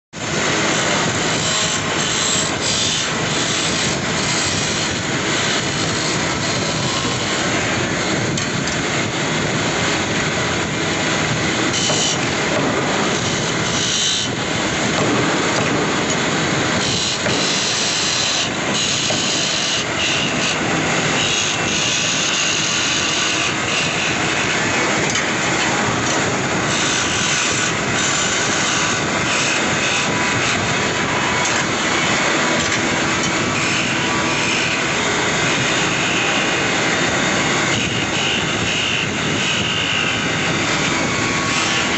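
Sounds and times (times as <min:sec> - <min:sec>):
turning tool cutting wood: 0:00.2 - 0:41.9
wood lathe running: 0:00.2 - 0:41.9.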